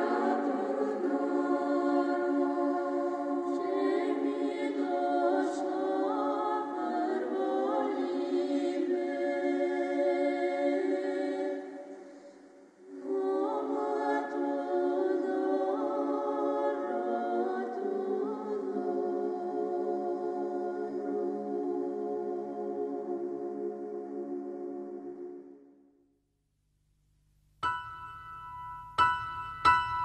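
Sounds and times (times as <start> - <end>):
choir singing held chords: 0.0 - 26.0.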